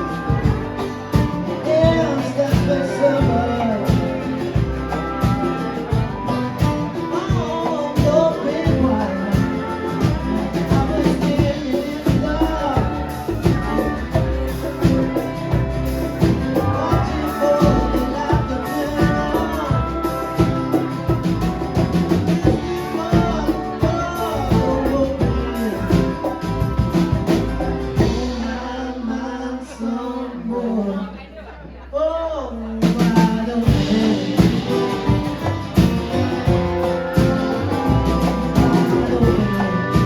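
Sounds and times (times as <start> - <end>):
steady drum beat: 0.0 - 28.6, 32.8 - 40.0
person singing: 0.0 - 31.3, 31.9 - 40.0
guitar: 0.0 - 40.0.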